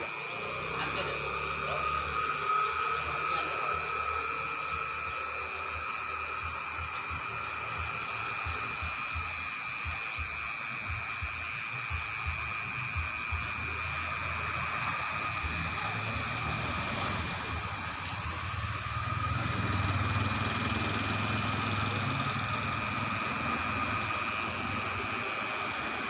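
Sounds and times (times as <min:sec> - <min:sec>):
high mechanical whine: 0:00.0 - 0:26.0.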